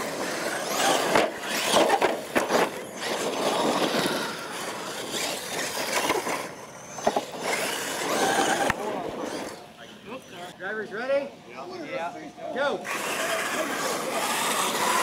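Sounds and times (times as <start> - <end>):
toy truck motors whining: 0.0 - 10.5, 12.8 - 15.0.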